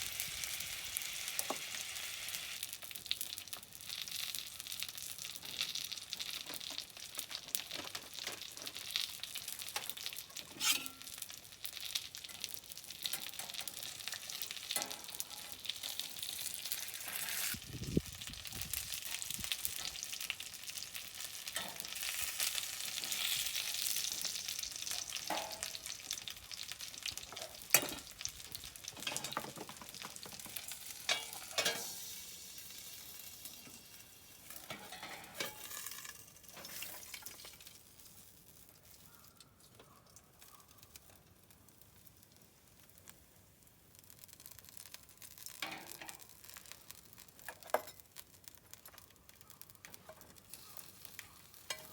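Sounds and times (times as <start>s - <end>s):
dumplings sizzling in a pan: 0.0s - 51.9s.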